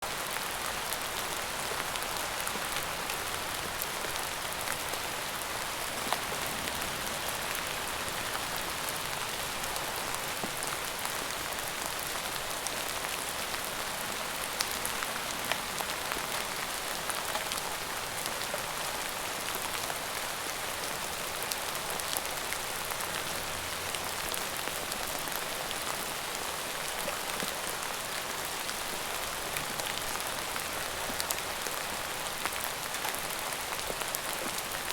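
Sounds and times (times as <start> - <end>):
rain pattering on a surface: 0.0 - 34.9.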